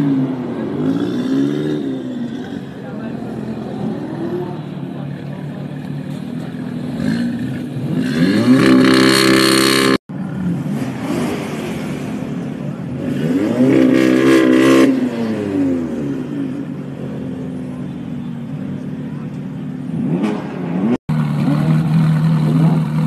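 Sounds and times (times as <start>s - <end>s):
car engine revving: 0.0s - 17.8s, 18.5s - 23.0s.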